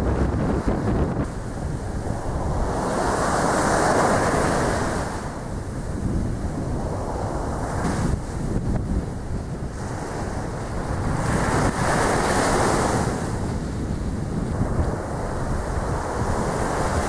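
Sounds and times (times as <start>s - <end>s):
rushing sea water: 0.0s - 17.0s
wind buffeting microphone: 0.0s - 17.0s.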